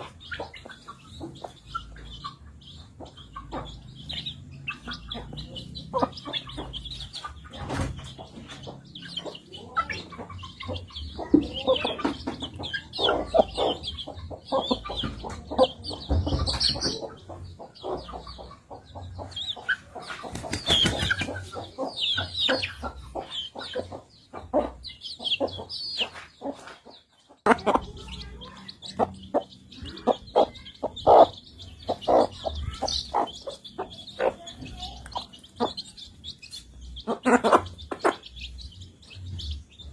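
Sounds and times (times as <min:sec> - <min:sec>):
chickens clucking: 0:00.0 - 0:39.9
high chirping calls: 0:00.0 - 0:39.9.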